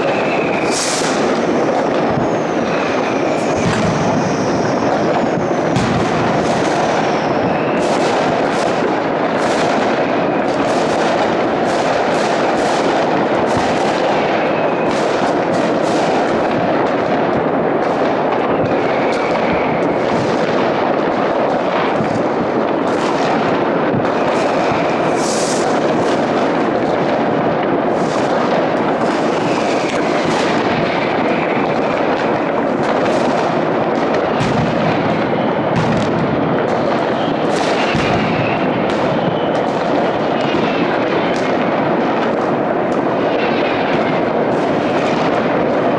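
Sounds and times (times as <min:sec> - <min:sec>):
firework whistles: 0:00.0 - 0:45.9
fireworks bangs and crackles: 0:00.0 - 0:45.9.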